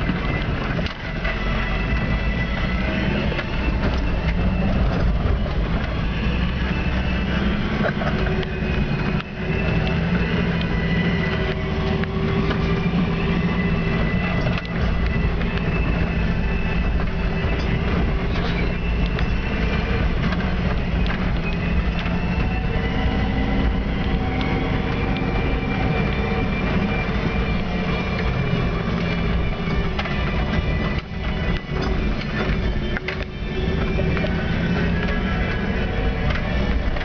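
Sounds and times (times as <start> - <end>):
knocks and rattles: 0.0 - 37.0
truck engine running under load: 0.0 - 37.0.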